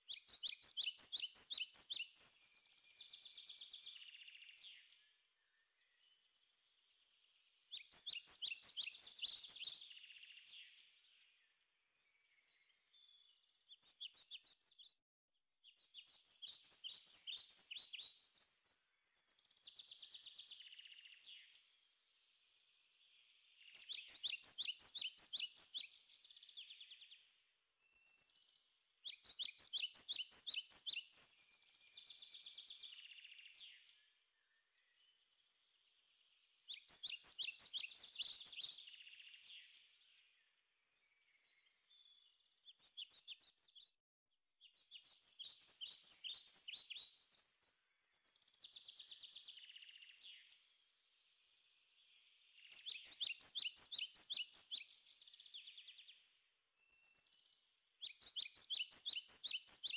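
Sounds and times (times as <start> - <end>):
songbird chirps and trills: 0.0 - 15.0, 15.6 - 44.0, 44.6 - 59.9.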